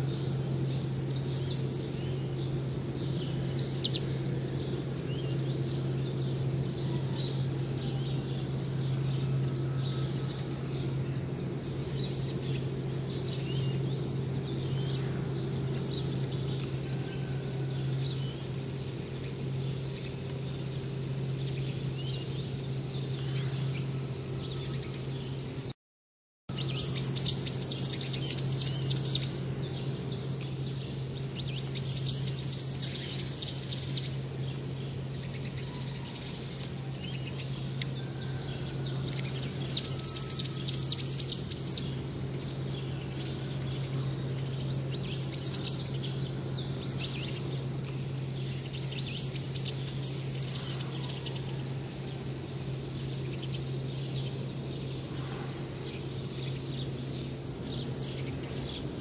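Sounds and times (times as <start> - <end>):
birds chirping: 0.0 - 25.8, 26.5 - 59.0
steady low hum: 0.0 - 25.8, 26.5 - 59.0.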